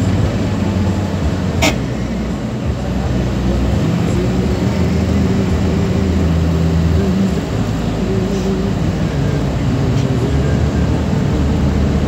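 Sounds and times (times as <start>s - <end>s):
van engine and road hum: 0.0s - 12.0s.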